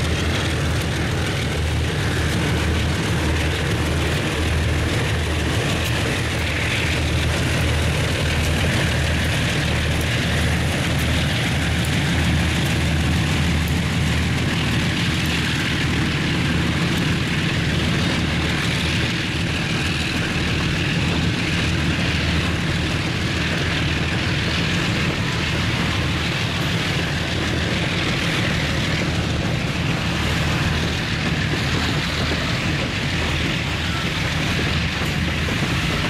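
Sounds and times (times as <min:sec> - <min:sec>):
diesel locomotive drone: 0:00.0 - 0:36.0
steel wheels rumbling on rail: 0:00.0 - 0:36.0.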